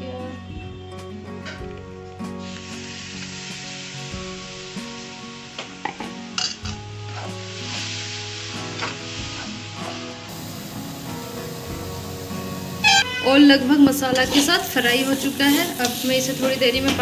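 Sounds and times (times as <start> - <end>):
food sizzling in a pan: 2.3 - 17.0.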